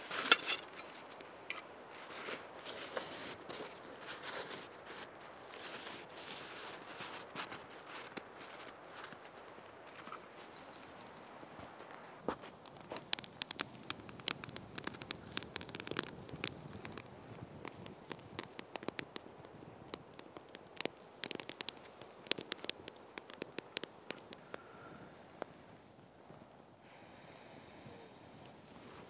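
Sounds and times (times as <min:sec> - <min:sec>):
campfire crackling and popping: 0:00.0 - 0:29.0
low hiss: 0:00.0 - 0:29.0.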